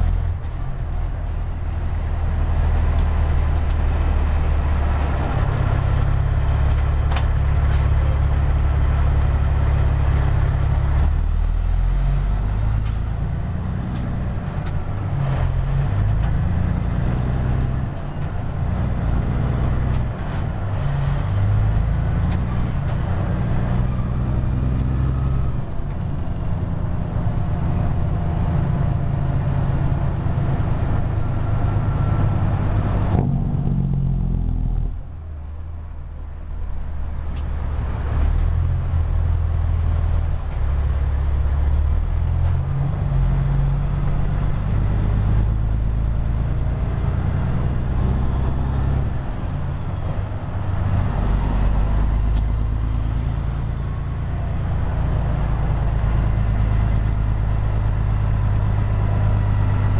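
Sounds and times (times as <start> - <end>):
truck diesel engine shifting gears: 0.0 - 59.9.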